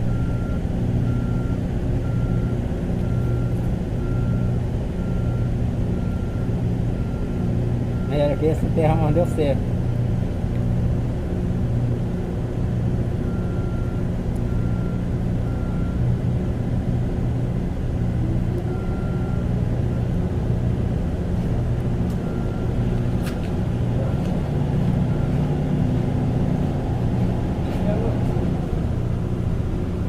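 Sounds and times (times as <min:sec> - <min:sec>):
engine low drone: 0:00.0 - 0:30.0.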